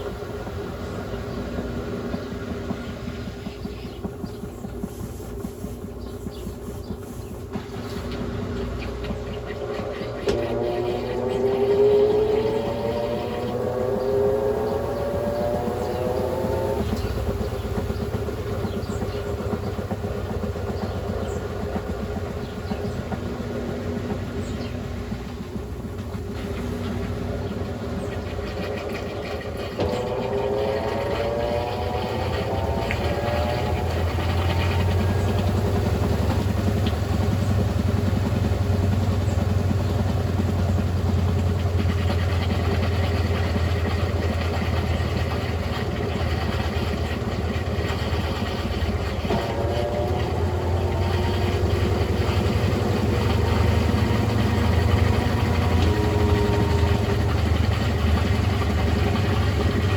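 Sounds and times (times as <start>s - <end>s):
washing machine motor humming: 0.0s - 59.9s
motor whine rising: 7.4s - 59.9s.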